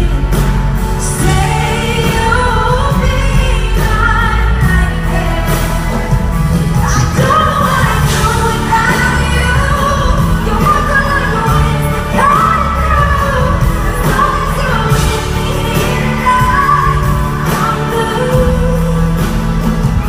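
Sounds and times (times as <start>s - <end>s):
band accompaniment: 0.0s - 20.0s
steady low bass: 0.0s - 20.0s
woman singing pop ballad: 0.0s - 20.0s.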